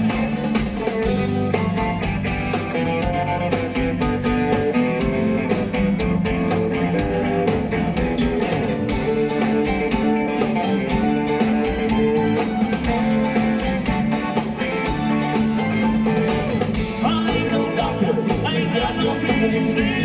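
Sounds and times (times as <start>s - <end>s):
electric guitar: 0.0s - 20.0s
live rock band playing: 0.0s - 20.0s
steady drum beat: 0.0s - 20.0s.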